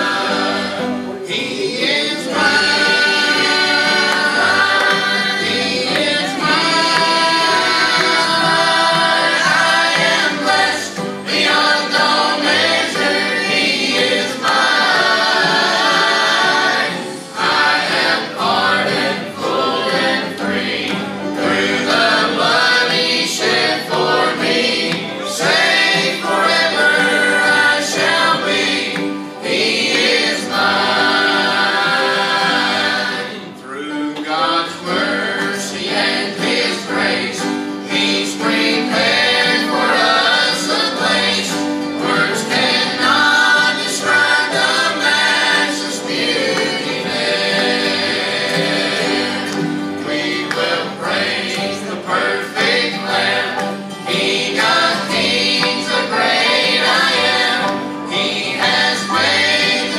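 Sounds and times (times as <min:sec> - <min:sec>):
acoustic guitar: 0:00.0 - 0:59.9
group singing in harmony: 0:00.0 - 0:59.9
piano: 0:00.0 - 0:59.9.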